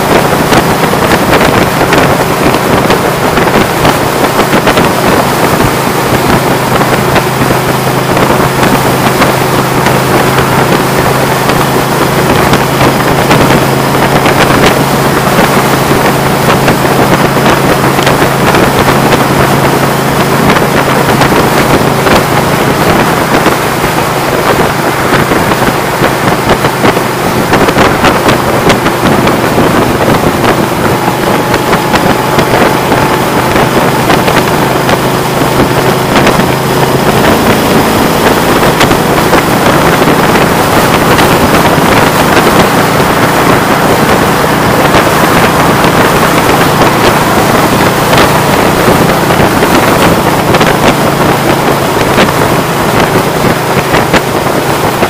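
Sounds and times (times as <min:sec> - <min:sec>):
wind and road noise: 0:00.0 - 0:55.0
wind buffeting microphone: 0:00.0 - 0:55.0.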